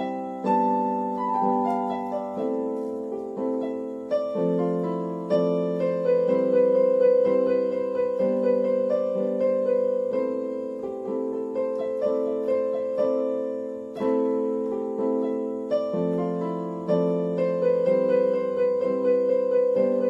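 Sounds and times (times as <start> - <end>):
slow keyboard melody: 0.0 - 20.0.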